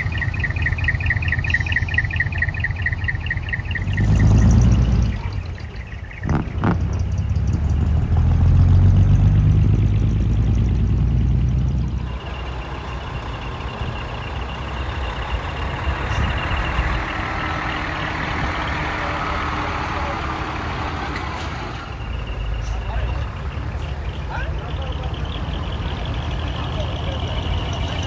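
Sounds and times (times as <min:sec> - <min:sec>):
diesel truck engines running: 0:00.0 - 0:28.0
truck driving past: 0:00.0 - 0:28.0.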